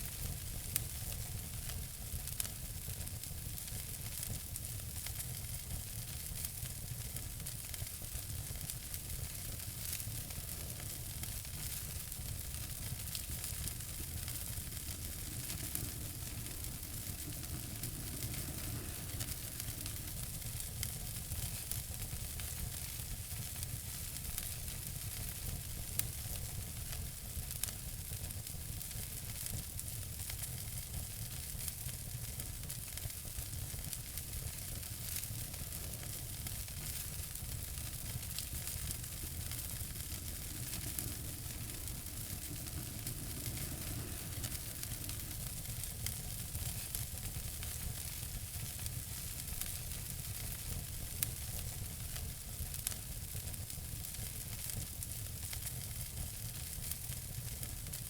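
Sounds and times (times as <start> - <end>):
wood fire crackling: 0.0 - 58.0
sharp fire pops: 3.5 - 58.0.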